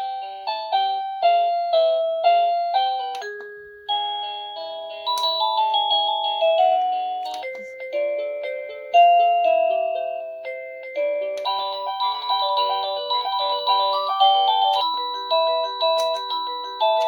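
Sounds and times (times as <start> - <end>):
doorbell chime melody: 0.0 - 17.0.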